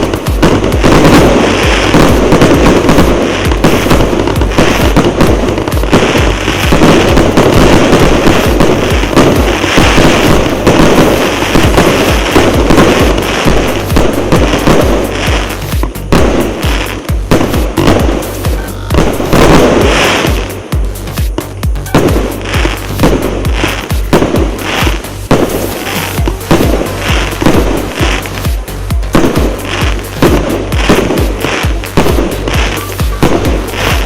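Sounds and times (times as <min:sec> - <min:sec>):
firework cake bangs and pops: 0:00.0 - 0:34.0.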